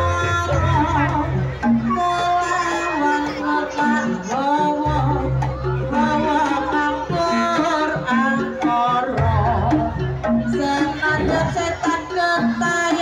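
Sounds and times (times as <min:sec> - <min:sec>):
deep drum beats: 0:00.0 - 0:03.0, 0:03.7 - 0:13.0
gamelan-style instruments: 0:00.0 - 0:13.0
hand drums: 0:00.0 - 0:13.0
person singing: 0:00.0 - 0:13.0.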